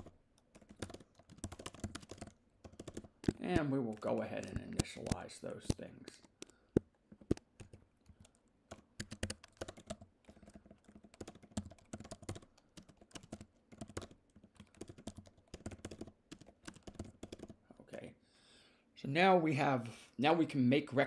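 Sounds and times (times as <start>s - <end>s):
computer keyboard typing: 0.0s - 17.6s.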